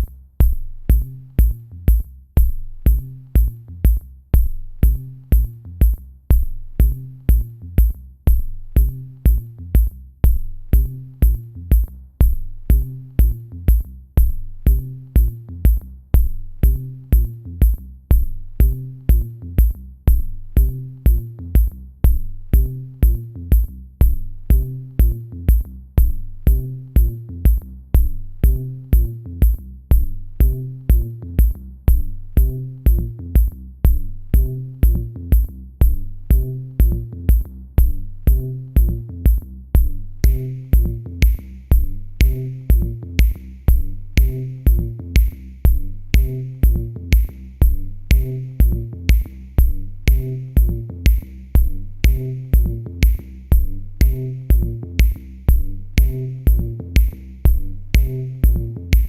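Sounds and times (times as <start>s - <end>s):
electronic music with drum beat: 0.0s - 59.0s.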